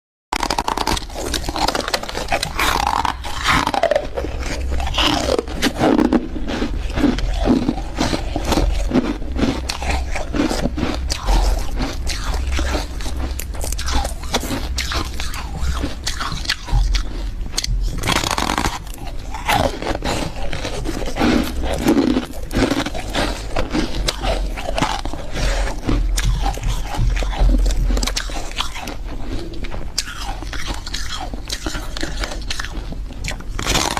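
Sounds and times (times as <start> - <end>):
frost being chewed crunching: 0.4 - 33.9.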